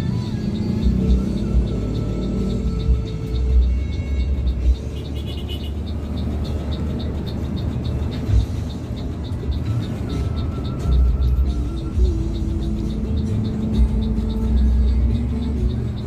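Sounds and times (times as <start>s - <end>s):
bus engine and tyres rumbling: 0.0s - 16.0s.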